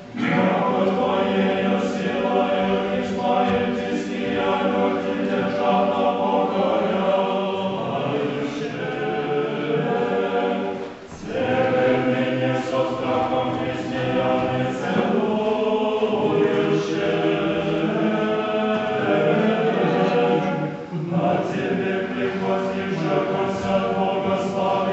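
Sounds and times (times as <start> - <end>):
choir chanting a cappella: 0.0 - 24.9.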